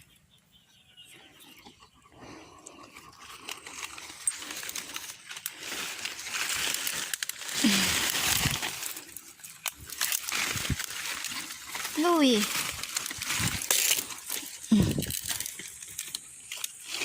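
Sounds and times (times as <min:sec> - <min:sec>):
dry vegetation rustling and crackling: 0:02.2 - 0:17.0.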